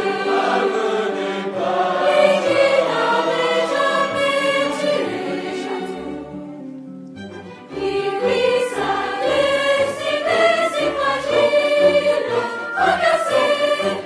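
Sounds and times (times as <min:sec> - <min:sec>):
mixed choir singing: 0:00.0 - 0:06.6, 0:07.7 - 0:14.0
orchestra playing: 0:00.0 - 0:14.0.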